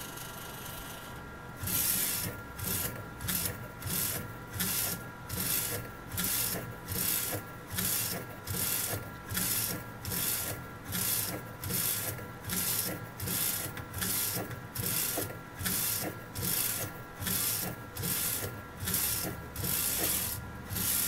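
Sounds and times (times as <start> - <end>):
faint mechanical whine: 0.0 - 21.0
printer humming: 0.0 - 21.0
print carriage swishing: 1.6 - 21.0.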